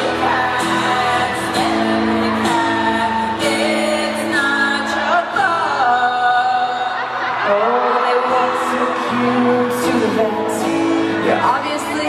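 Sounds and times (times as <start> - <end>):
acoustic guitars playing: 0.0 - 12.0
person singing: 0.0 - 12.0.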